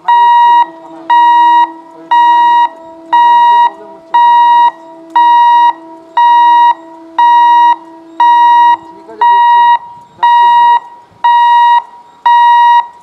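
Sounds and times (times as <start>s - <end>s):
steady low tone: 0.0s - 11.6s
level crossing warning beeps: 0.0s - 13.0s.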